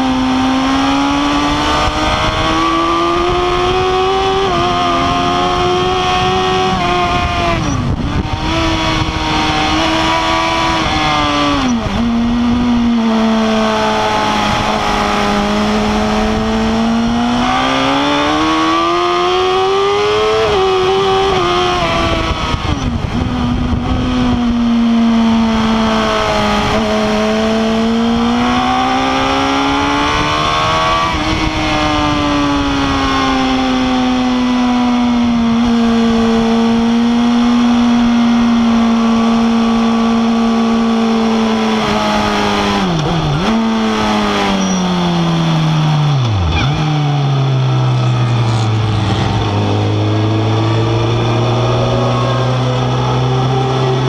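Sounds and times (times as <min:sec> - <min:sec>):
wind noise on microphone: 0:00.0 - 0:47.0
motorcycle engine revving: 0:00.0 - 0:54.0.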